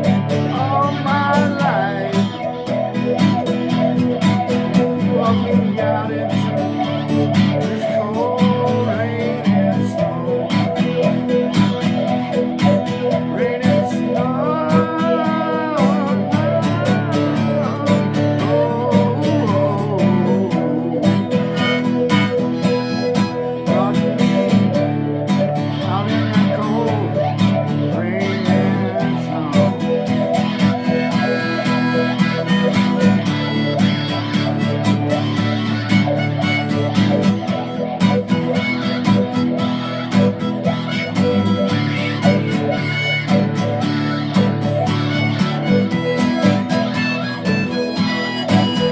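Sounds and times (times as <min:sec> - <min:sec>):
electric guitar with wah pedal: 0:00.0 - 0:48.9.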